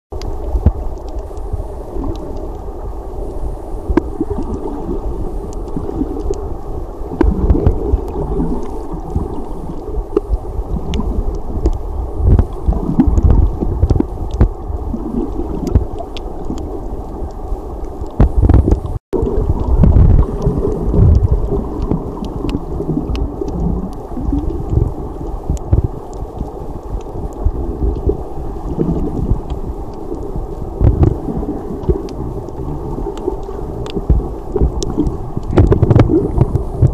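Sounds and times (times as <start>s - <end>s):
sharp underwater clicks: 0.2s - 2.6s, 3.9s - 6.5s, 7.1s - 36.9s.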